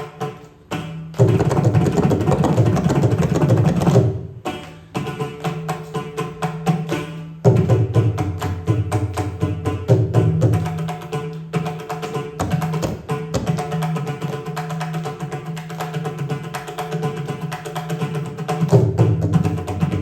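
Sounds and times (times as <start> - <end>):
hand drums playing rapid rolls: 0.0 - 20.0.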